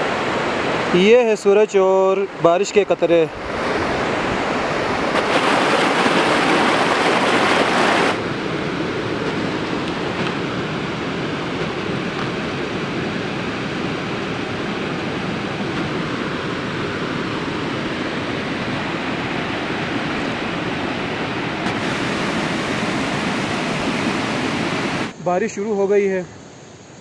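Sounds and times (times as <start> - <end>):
stream water rushing: 0.0 - 25.7.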